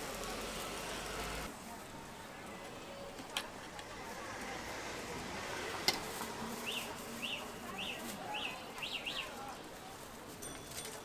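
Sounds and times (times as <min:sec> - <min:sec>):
market background noise: 0:00.0 - 0:11.0.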